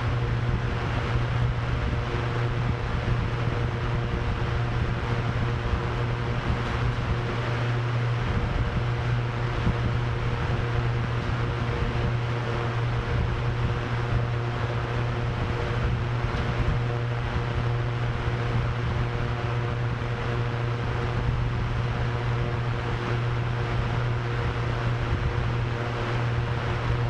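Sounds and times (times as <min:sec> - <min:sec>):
drone propellers humming: 0:00.0 - 0:27.0.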